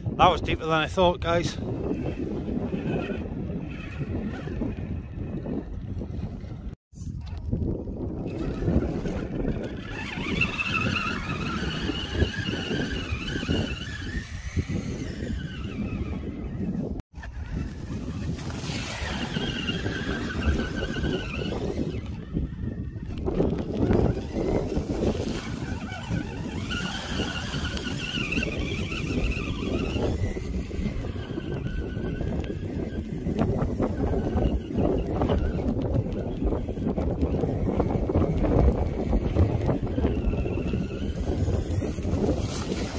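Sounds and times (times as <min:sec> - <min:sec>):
electric motor whine: 0:08.2 - 0:42.9.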